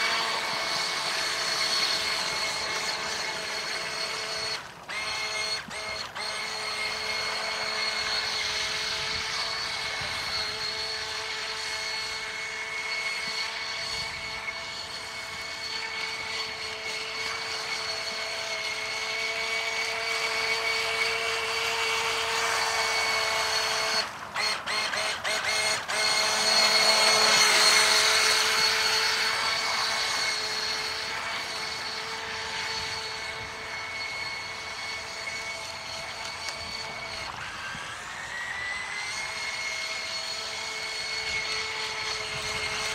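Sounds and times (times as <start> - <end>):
electric motor high whine: 0.0 - 42.9.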